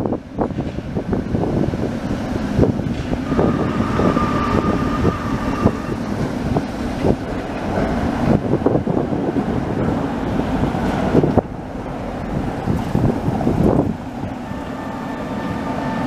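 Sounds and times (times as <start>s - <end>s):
tram wheels clattering on rails: 0.0s - 16.0s.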